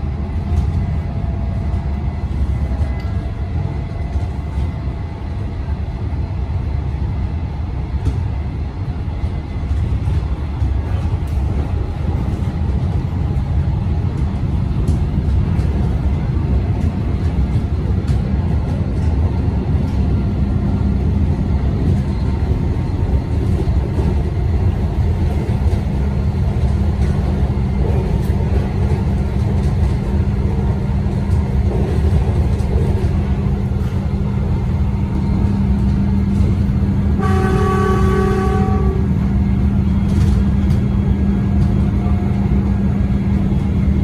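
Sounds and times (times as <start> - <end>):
electric train rumbling: 0.0 - 44.0.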